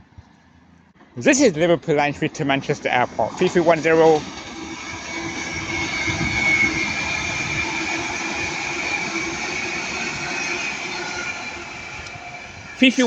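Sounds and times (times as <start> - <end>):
electric train passing with whine: 0.0 - 13.0.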